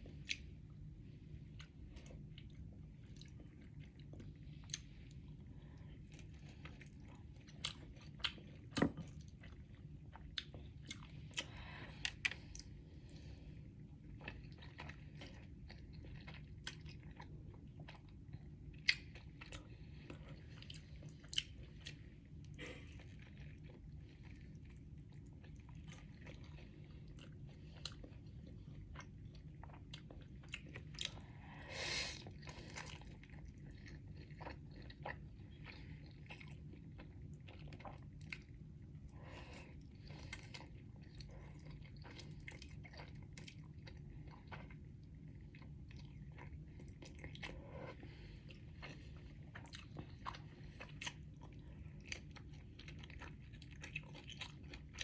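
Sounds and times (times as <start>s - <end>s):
close-up chewing noodles: 0.0s - 55.0s
steady low hum: 0.0s - 55.0s.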